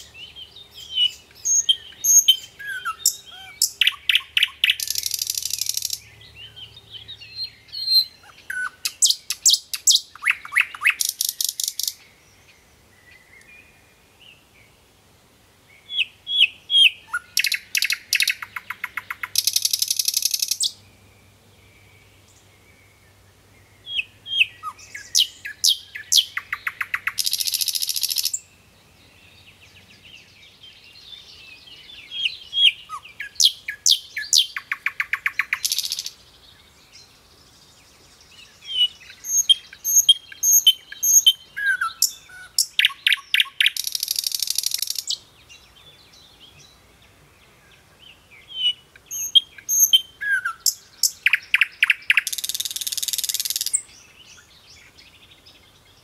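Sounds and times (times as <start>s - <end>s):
songbird trilling: 0.0s - 13.6s, 15.8s - 20.8s, 23.8s - 28.5s, 29.3s - 36.2s, 38.2s - 46.8s, 48.0s - 56.0s
other birds chirping faintly: 0.0s - 15.0s, 15.6s - 56.0s.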